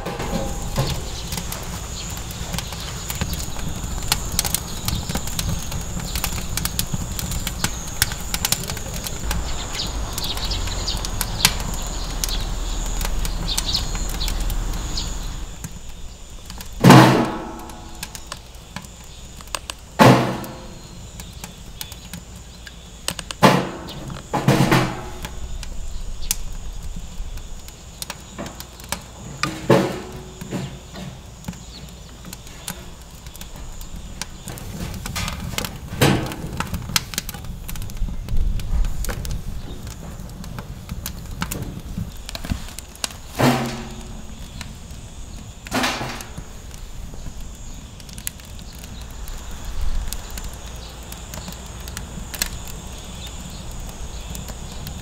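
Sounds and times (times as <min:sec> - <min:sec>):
logs knocking into metal fire pit: 0:00.0 - 0:22.2, 0:23.1 - 0:25.8, 0:27.0 - 0:47.4.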